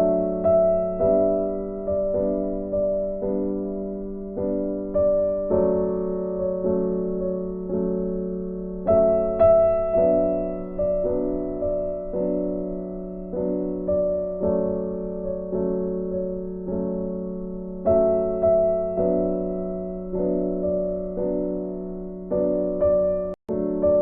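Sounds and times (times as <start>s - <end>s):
gentle piano music: 0.0s - 24.0s.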